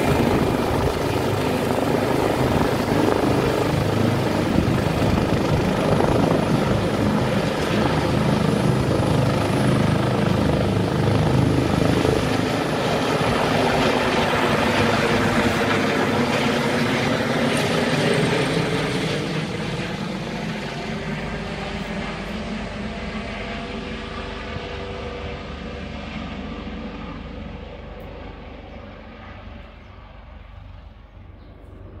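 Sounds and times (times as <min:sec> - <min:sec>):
helicopter rotors and engines: 0:00.0 - 0:32.0.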